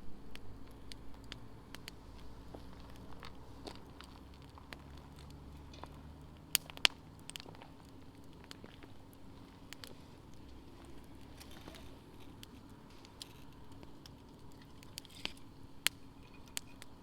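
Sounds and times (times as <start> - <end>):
wood fire crackling: 0.0 - 17.0
sharp pops of fire: 0.3 - 17.0.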